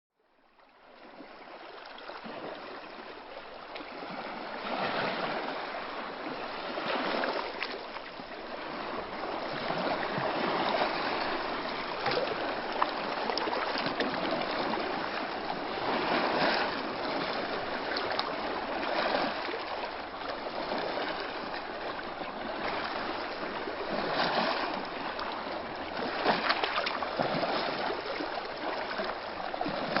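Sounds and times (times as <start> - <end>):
small waves lapping: 0.2 - 30.0.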